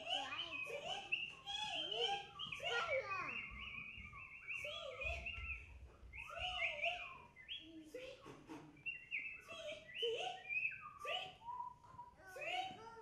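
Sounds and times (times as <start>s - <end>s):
bird-like chirping and whistled calls: 0.0s - 13.0s.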